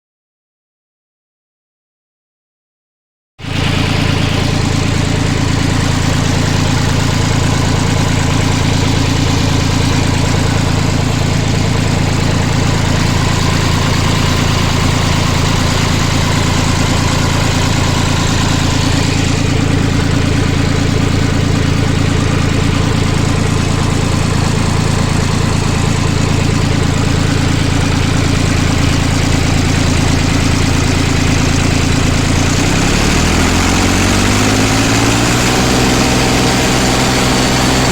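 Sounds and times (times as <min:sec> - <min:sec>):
tractor engine idling: 0:03.4 - 0:37.9.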